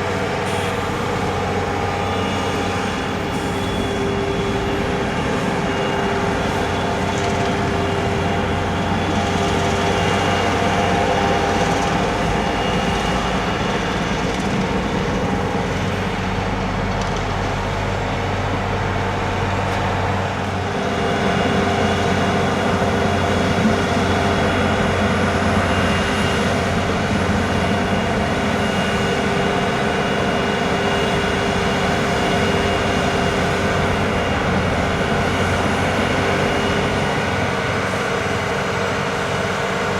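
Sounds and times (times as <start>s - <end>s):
snow-clearing vehicle engine: 0.0s - 39.9s.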